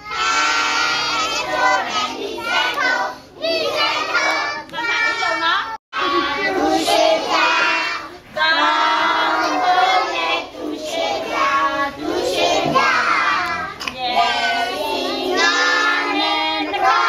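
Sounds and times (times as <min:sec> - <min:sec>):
children singing in chorus: 0:00.0 - 0:05.2, 0:06.0 - 0:17.0.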